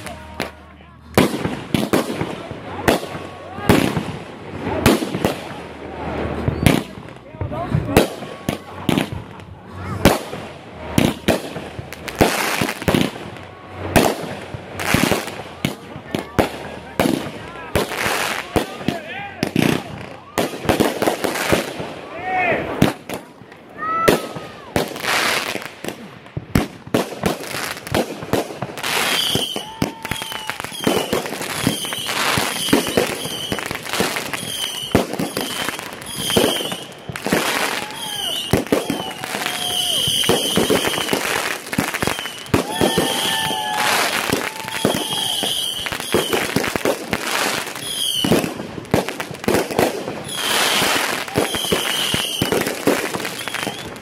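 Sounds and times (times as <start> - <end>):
fireworks bangs: 0.0 - 54.0
fireworks crackling: 0.0 - 54.0
fireworks whistling: 0.0 - 54.0.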